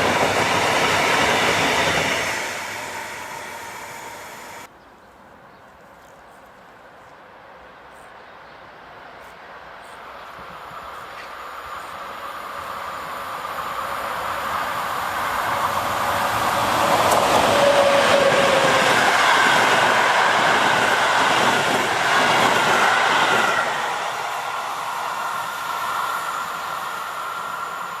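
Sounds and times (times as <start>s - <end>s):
train passing: 0.0s - 4.7s, 8.7s - 28.0s.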